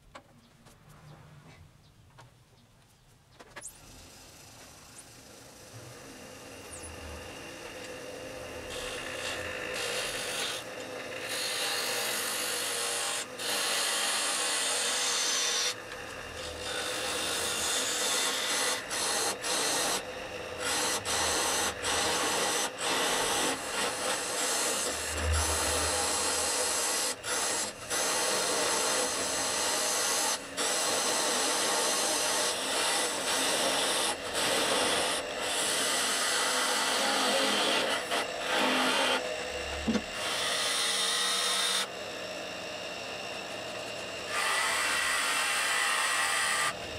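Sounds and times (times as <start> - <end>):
gouge scraping spinning wood: 3.6 - 41.9, 43.8 - 46.9.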